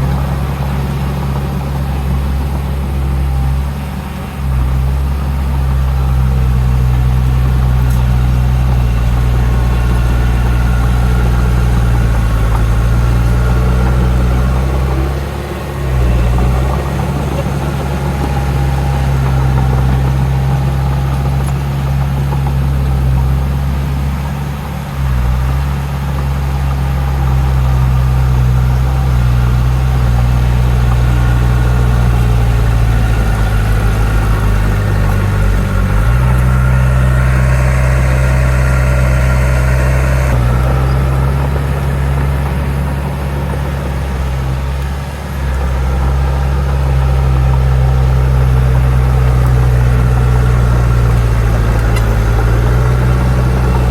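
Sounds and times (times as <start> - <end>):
diesel earthmoving machinery running: 0.0 - 53.9.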